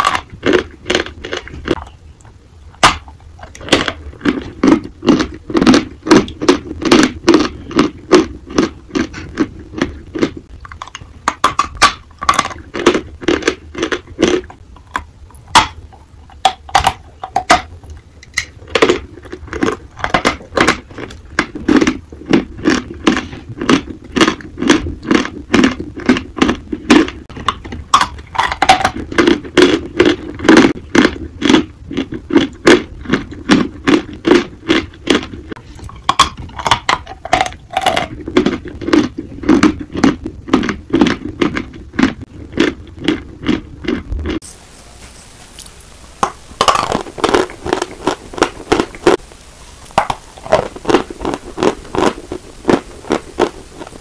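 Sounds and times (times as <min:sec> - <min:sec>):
chewing chalk crunches: 0:00.0 - 0:44.4, 0:46.2 - 0:49.2, 0:49.9 - 0:54.0.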